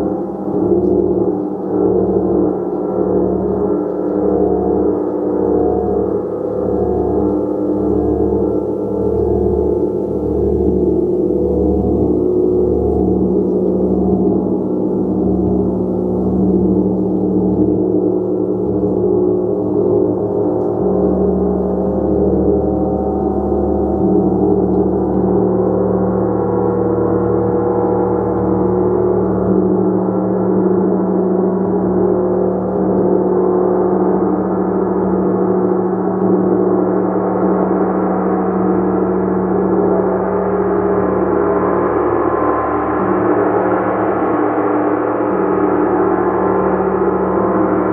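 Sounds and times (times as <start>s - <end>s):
sustained gong wash: 0.0s - 47.9s.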